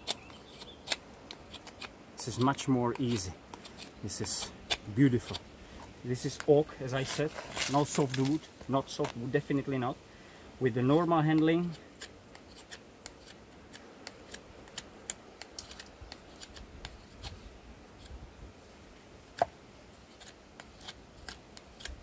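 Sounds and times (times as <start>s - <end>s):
knife carving wood: 0.0s - 9.5s, 10.8s - 18.2s, 19.3s - 22.0s.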